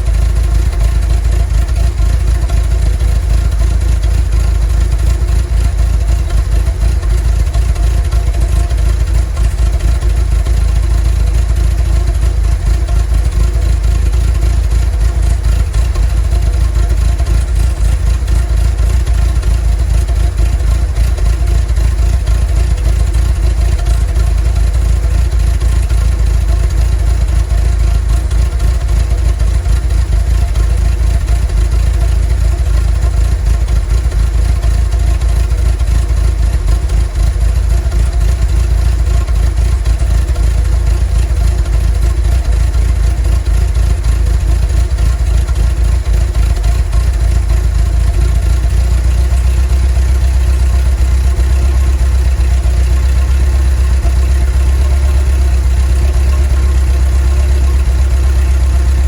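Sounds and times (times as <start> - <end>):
van engine humming: 0.0 - 59.0.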